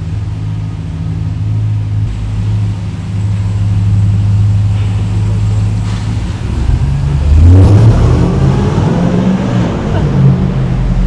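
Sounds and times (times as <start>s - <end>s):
engine running and revving: 0.0s - 11.0s.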